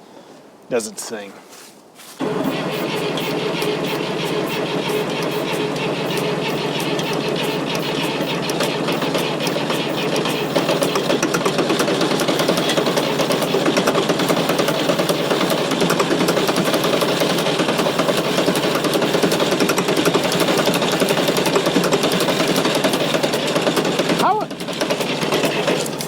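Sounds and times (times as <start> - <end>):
diesel engine idling: 2.2 - 26.0.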